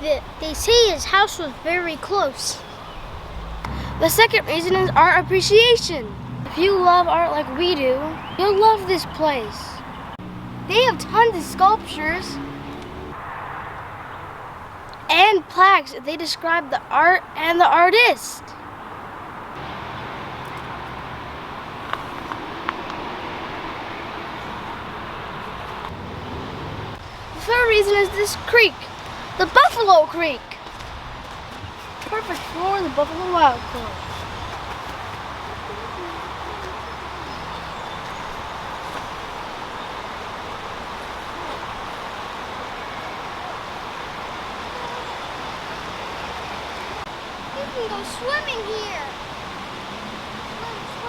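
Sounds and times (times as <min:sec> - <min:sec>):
creek water flowing: 0:00.0 - 0:51.0
rushing outdoor background noise: 0:00.0 - 0:51.0.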